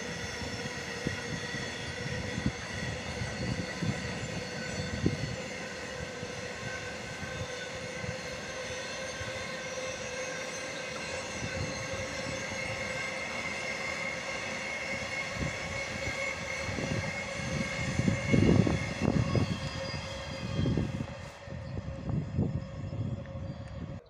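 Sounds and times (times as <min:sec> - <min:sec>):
train wheels rolling on rails: 0:00.0 - 0:21.7.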